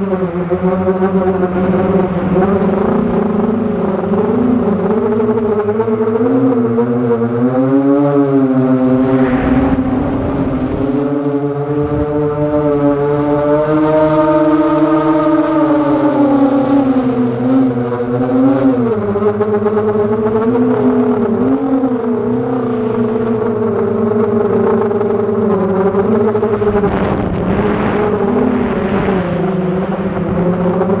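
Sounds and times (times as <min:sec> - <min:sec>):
drone motors whining: 0:00.0 - 0:31.0.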